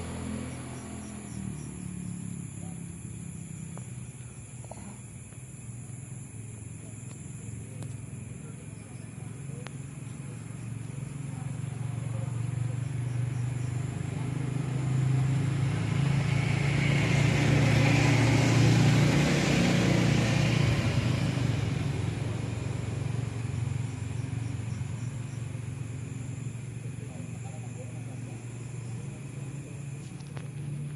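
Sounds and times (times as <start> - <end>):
vehicle passing by: 0.0 - 4.8, 6.3 - 30.9.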